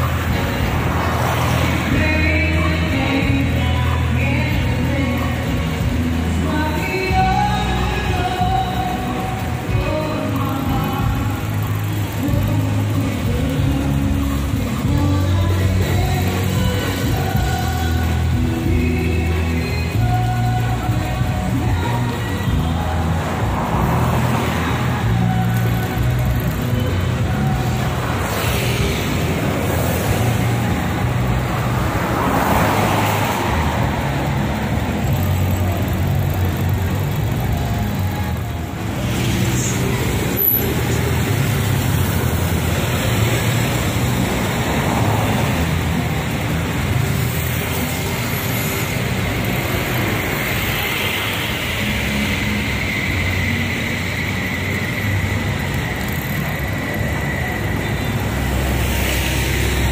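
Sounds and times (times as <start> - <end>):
cars passing on road: 0.0 - 59.9.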